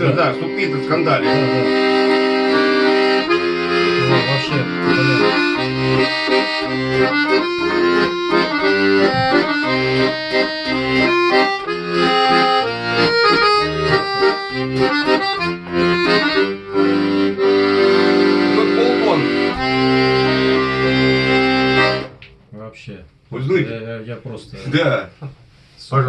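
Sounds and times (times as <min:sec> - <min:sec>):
accordion playing a tune: 0:00.0 - 0:22.3.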